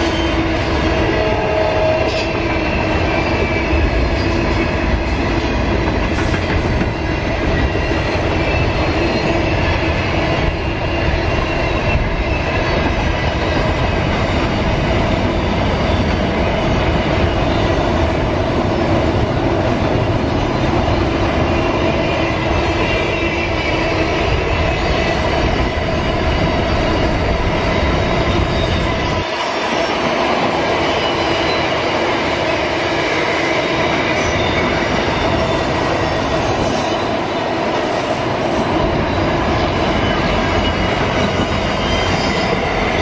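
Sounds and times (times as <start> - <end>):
train wheels rolling on rails: 0.0 - 43.0.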